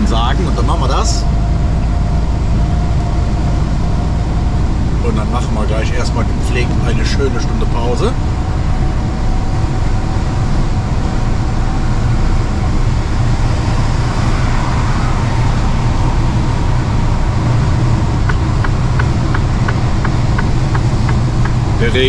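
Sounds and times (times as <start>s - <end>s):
truck engine and road drone: 0.0s - 22.0s.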